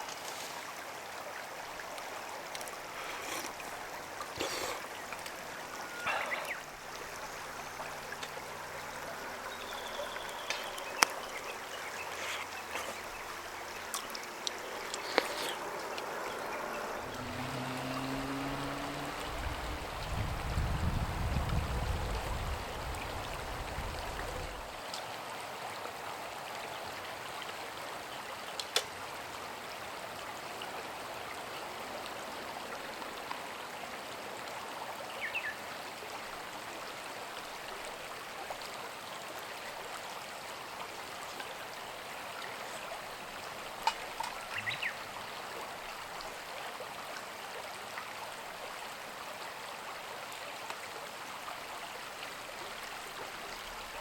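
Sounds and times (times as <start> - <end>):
rushing water-like noise: 0.0 - 54.0.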